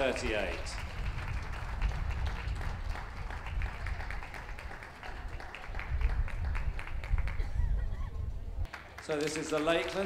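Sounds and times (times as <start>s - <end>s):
audience applauding: 0.5s - 7.4s, 8.7s - 10.0s.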